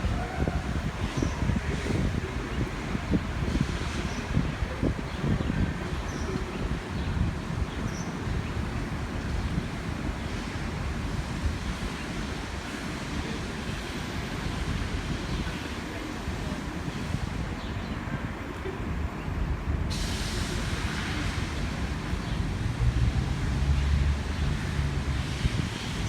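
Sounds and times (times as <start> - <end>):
street noise: 0.0 - 26.0
wind buffeting microphone: 0.0 - 26.0.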